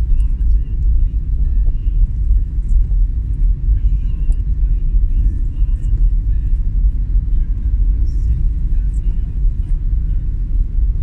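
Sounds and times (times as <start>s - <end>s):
vehicle rumbling on road: 0.0s - 11.0s.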